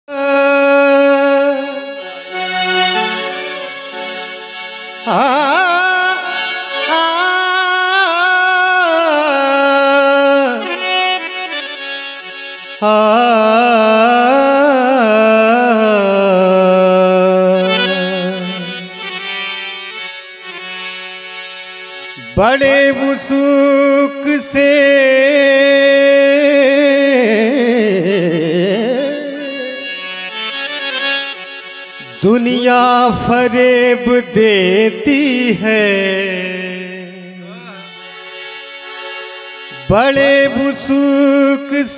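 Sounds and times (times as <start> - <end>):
man singing with vibrato: 0.0 - 19.7, 22.0 - 41.9
harmonium drone: 0.1 - 41.9.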